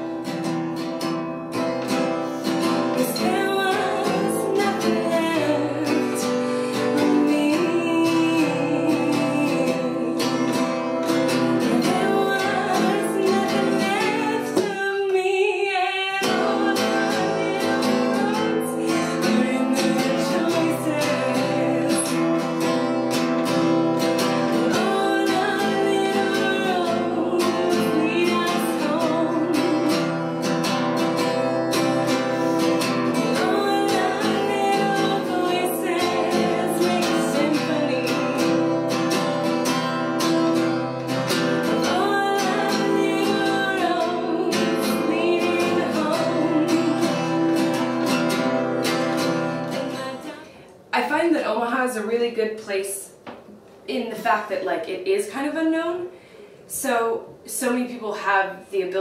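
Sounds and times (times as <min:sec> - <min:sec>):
acoustic guitar strumming: 0:00.0 - 0:51.0
woman singing: 0:02.4 - 0:23.5, 0:24.1 - 0:49.0, 0:49.7 - 0:51.2.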